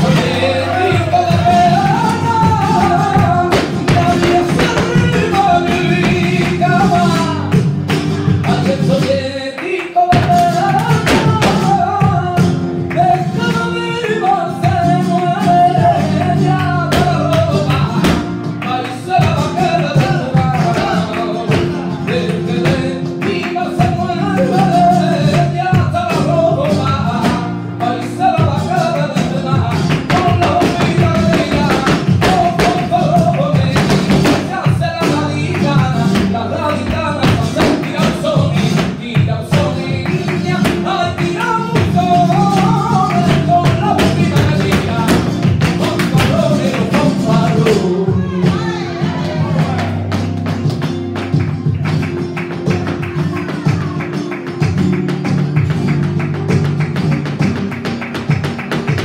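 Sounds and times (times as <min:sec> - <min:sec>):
hand clapping: 0:00.0 - 0:48.6, 0:49.2 - 0:59.0
flamenco guitar: 0:00.0 - 0:59.0
man singing flamenco: 0:00.0 - 0:59.0.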